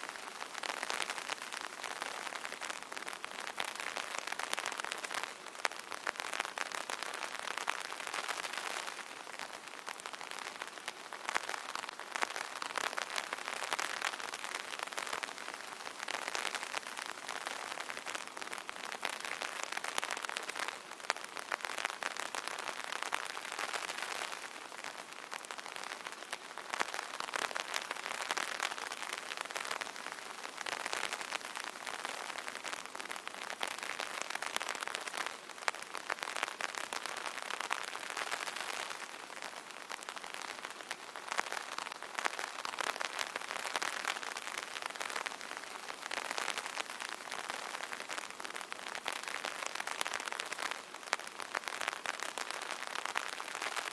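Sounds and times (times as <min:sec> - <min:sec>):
light rain on fabric umbrella: 0:00.0 - 0:53.9.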